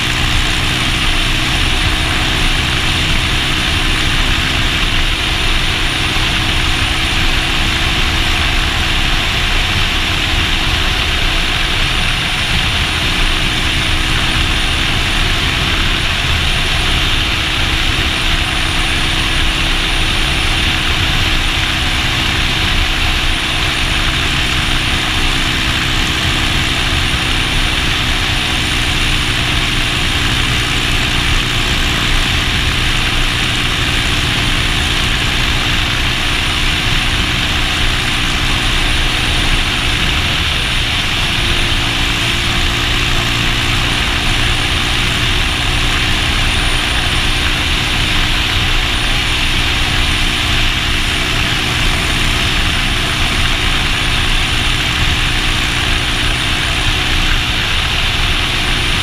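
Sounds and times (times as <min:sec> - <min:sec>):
motorcycle engine cruising: 0:00.0 - 0:59.0
wind rush over microphone: 0:00.0 - 0:59.0.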